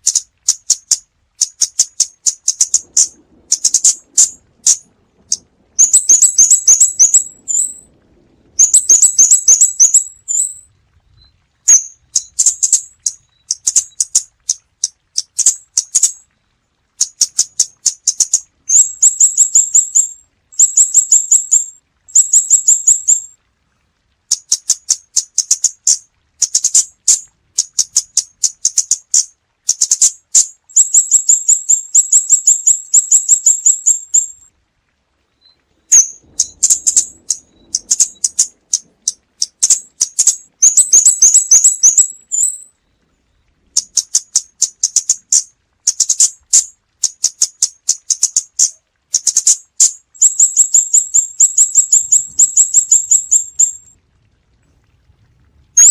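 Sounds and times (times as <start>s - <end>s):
bird high-pitched ticking calls: 0.0s - 7.9s, 8.5s - 10.6s, 11.2s - 16.2s, 17.0s - 23.4s, 24.3s - 34.4s, 35.4s - 42.7s, 43.3s - 53.9s.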